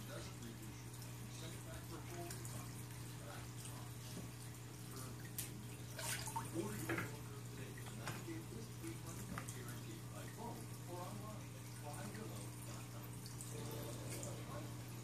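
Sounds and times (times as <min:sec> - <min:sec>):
aquarium filter humming: 0:00.0 - 0:15.0
water splashing: 0:00.0 - 0:15.0
water trickling: 0:00.0 - 0:15.0.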